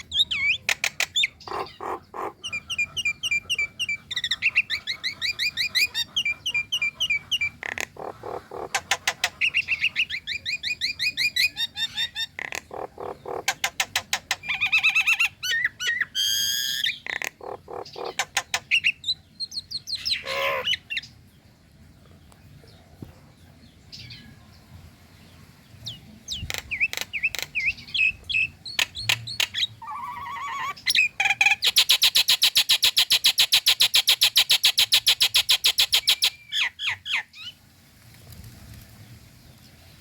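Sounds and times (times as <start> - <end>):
bird sharp chirps and clicks: 0.0 - 21.4, 25.8 - 37.6.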